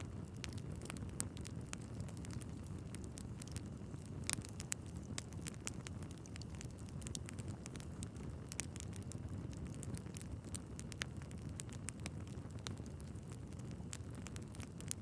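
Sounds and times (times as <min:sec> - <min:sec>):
logs crackling and popping: 0:00.0 - 0:15.0
wood fire burning: 0:00.0 - 0:15.0.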